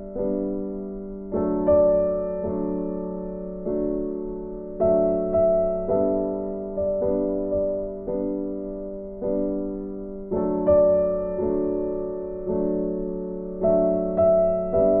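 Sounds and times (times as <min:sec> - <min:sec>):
soft keyboard chords: 0:00.0 - 0:15.0.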